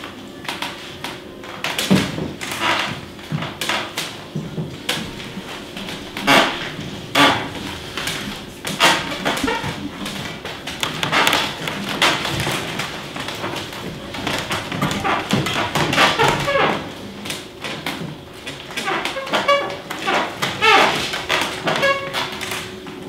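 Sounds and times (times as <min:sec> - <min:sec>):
dough squashing: 0:00.0 - 0:23.0.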